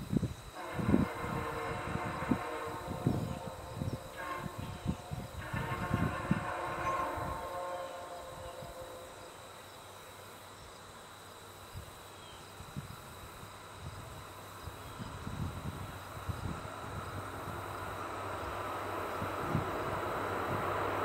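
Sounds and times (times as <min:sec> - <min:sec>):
insects chirring: 0:00.0 - 0:21.0
distant train horn: 0:00.5 - 0:10.5, 0:14.2 - 0:21.0.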